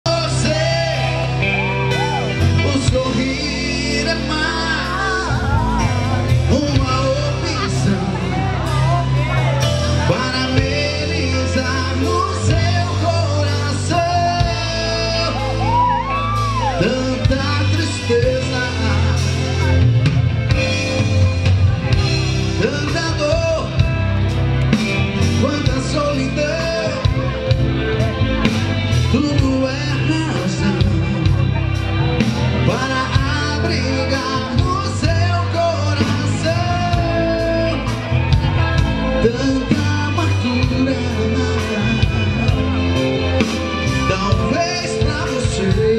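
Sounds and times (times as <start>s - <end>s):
live band music: 0.0s - 45.9s
man singing: 0.0s - 45.9s.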